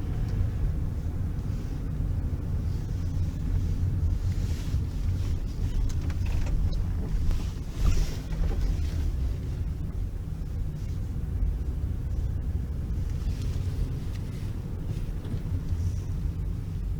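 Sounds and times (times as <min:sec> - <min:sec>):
car engine and road rumble: 0:00.0 - 0:16.9.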